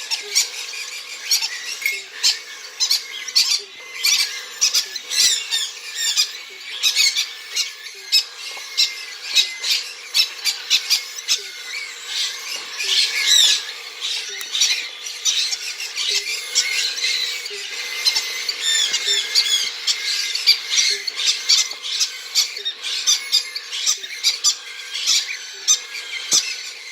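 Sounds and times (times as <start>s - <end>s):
chicks squawking: 0.0s - 26.9s.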